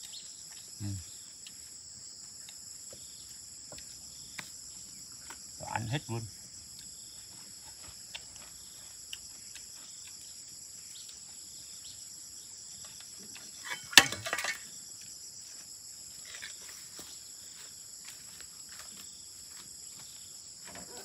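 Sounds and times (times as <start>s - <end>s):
insect chirring: 0.0s - 21.0s.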